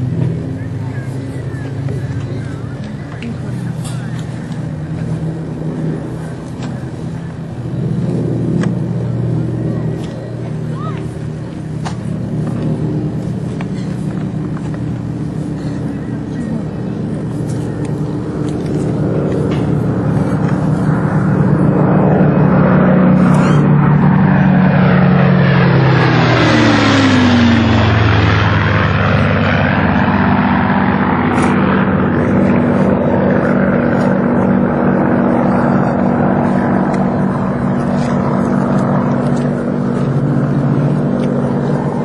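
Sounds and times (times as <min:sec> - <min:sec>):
propeller planes droning past: 0:00.0 - 0:42.0.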